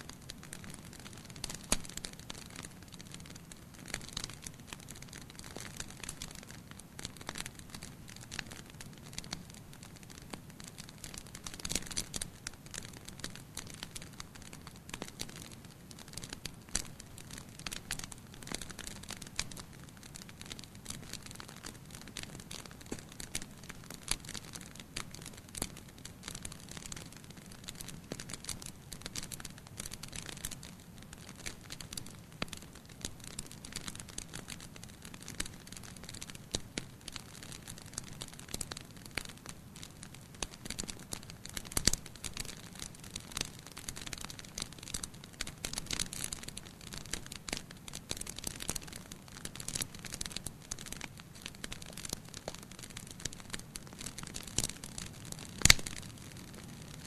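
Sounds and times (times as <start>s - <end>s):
wood fire crackling and popping: 0.1s - 57.0s.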